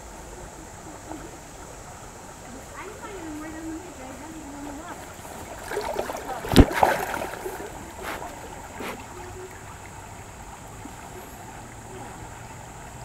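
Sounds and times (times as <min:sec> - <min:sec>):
muffled underwater water: 0:00.0 - 0:13.0.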